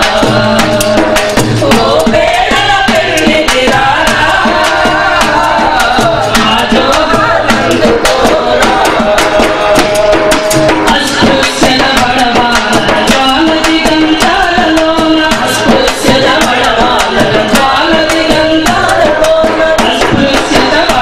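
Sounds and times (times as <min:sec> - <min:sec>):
several voices singing: 0:00.0 - 0:21.0.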